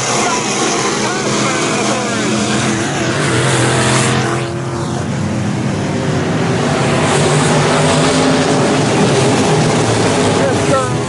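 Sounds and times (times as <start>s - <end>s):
race car engines running: 0.0s - 11.0s
race car passing close: 0.0s - 11.0s.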